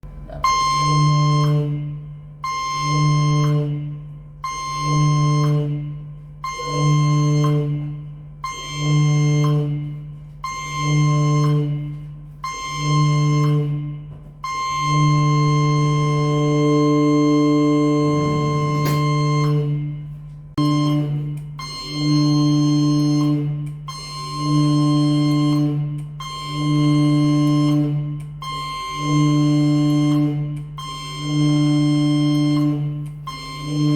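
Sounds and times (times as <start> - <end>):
ship alarm blasts: 0.3 - 33.9.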